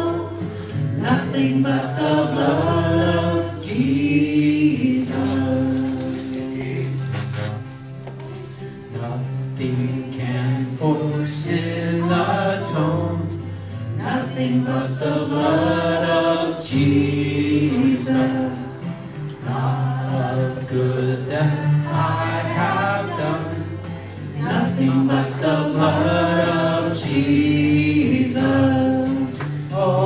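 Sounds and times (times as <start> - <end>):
other voices singing: 0.0 - 7.7, 8.9 - 30.0
acoustic guitar: 0.0 - 30.0.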